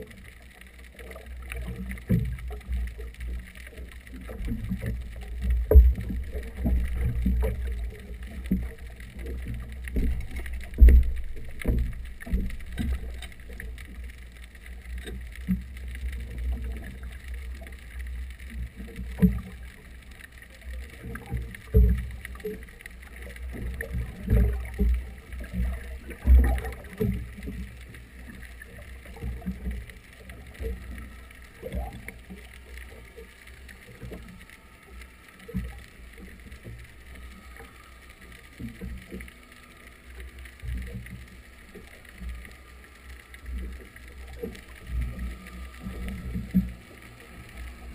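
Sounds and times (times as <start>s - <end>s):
underwater exhaust bubbles: 0.0s - 47.9s.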